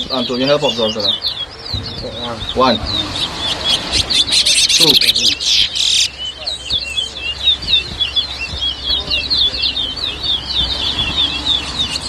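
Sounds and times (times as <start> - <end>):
finch singing whistled notes: 0.0 - 12.0.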